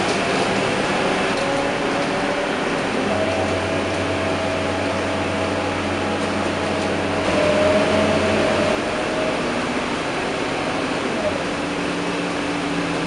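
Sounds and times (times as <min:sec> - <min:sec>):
bus engine drone: 0:00.0 - 0:13.0
high whine: 0:00.0 - 0:13.0.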